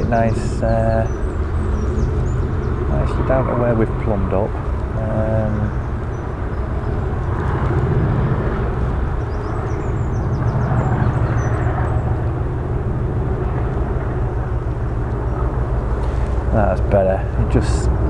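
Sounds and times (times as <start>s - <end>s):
distant engine drone: 0.0s - 18.0s.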